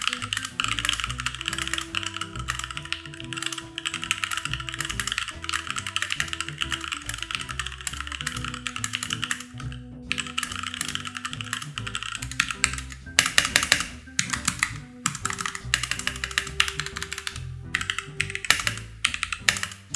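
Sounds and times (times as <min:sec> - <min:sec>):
background music: 0:00.0 - 0:19.9
mechanical keyboard typing: 0:00.0 - 0:19.9.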